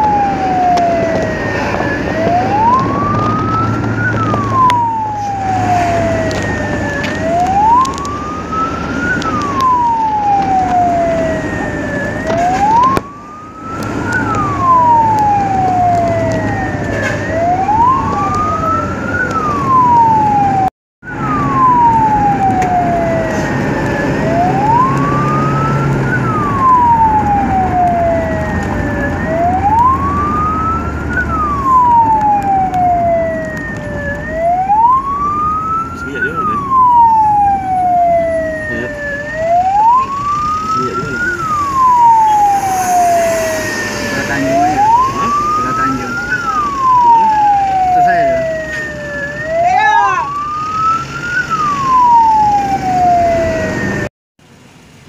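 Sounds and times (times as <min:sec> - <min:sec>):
ambulance siren wailing: 0:00.0 - 0:54.1
vehicle engine hum: 0:00.0 - 0:55.0.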